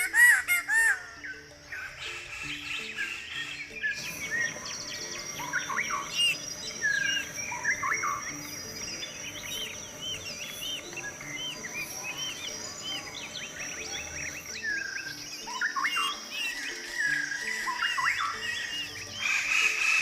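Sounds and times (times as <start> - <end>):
birds chirping and whistling: 0.0 - 20.0.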